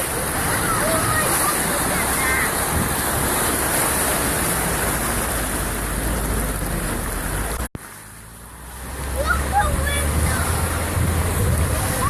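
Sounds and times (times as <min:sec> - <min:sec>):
car driving through floodwater: 0:00.0 - 0:12.0
heavy rain: 0:00.0 - 0:12.0.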